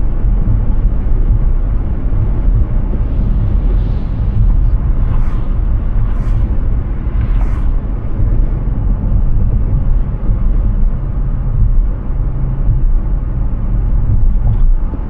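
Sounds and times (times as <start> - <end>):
tyre and wind noise: 0.0 - 15.0.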